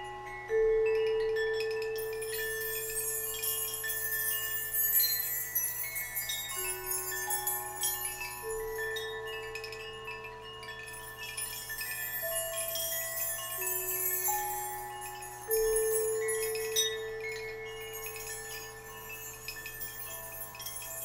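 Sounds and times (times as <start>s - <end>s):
metal wind chimes tinkling: 0.0s - 21.0s.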